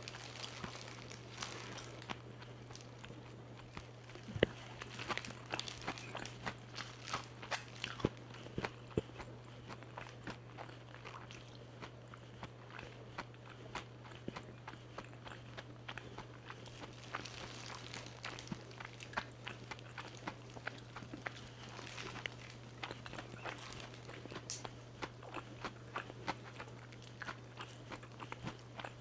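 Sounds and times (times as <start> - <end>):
crunchy chewing of fried chicken: 0.0 - 29.0
steady low hum: 0.0 - 29.0.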